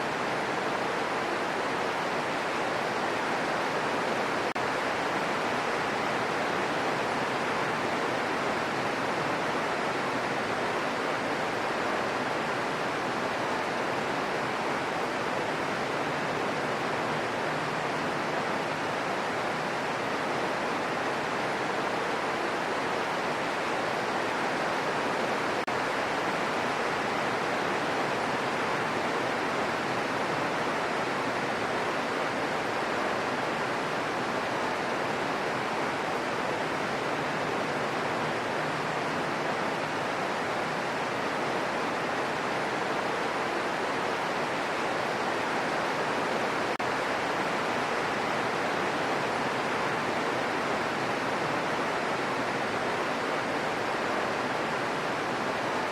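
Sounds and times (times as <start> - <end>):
steady rain hiss: 0.0 - 55.9.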